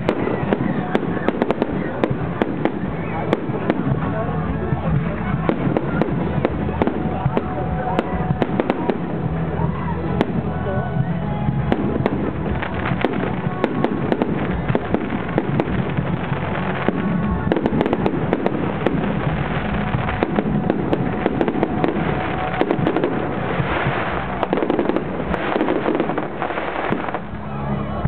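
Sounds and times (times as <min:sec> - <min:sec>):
firework crackling: 0:00.0 - 0:28.0.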